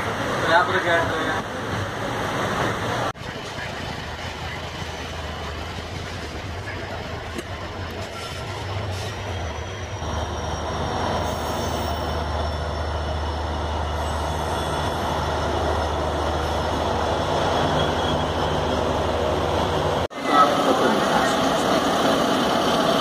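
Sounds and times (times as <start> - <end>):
diesel locomotive engine drone: 0.0 - 23.0
train wheels rumbling on rails: 0.0 - 23.0.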